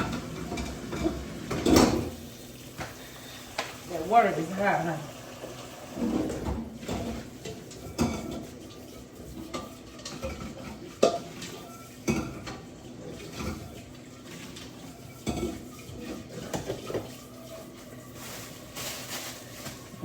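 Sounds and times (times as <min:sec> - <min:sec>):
pots and dishes clinking: 0:00.0 - 0:02.2, 0:05.4 - 0:20.0.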